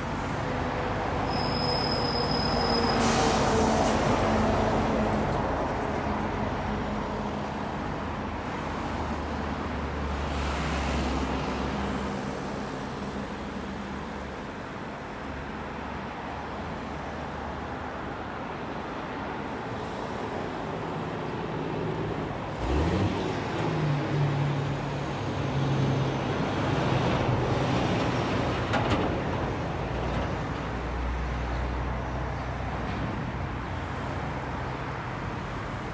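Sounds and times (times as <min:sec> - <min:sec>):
traffic noise: 0:00.0 - 0:35.9
vehicles passing: 0:00.0 - 0:35.9.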